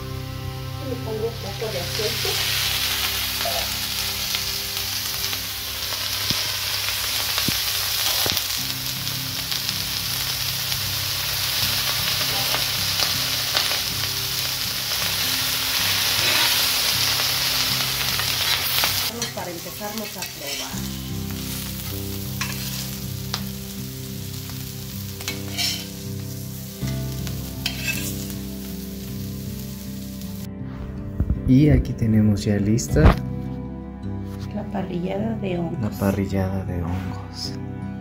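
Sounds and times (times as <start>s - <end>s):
food sizzling in oil: 0.0s - 30.5s
low background music: 0.0s - 38.0s.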